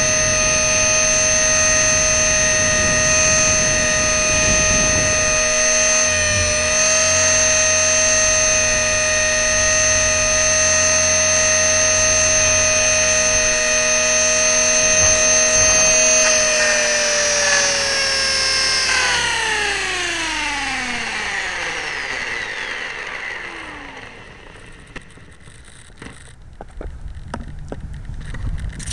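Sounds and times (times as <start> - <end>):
rc helicopter motor whining: 0.0 - 28.9.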